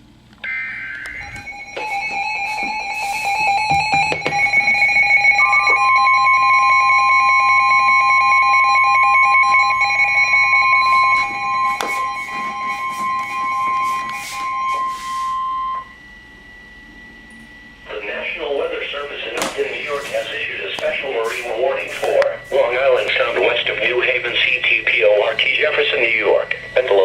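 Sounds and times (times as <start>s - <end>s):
electronic alert tones: 0.4s - 25.2s.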